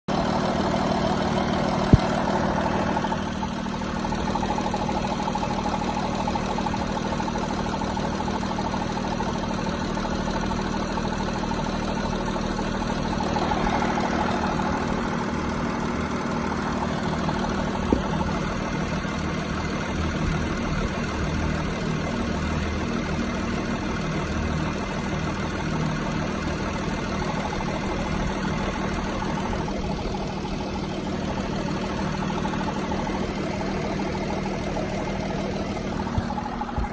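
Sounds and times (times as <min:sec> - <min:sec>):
car engine idling: 0:00.1 - 0:36.9.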